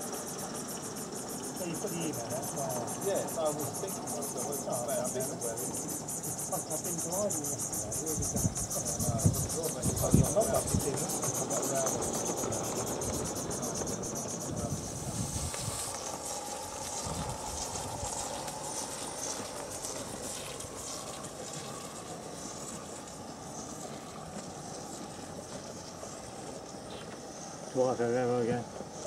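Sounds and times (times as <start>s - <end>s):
steam train ticking beat: 0.0s - 26.9s
model train running: 0.0s - 29.0s.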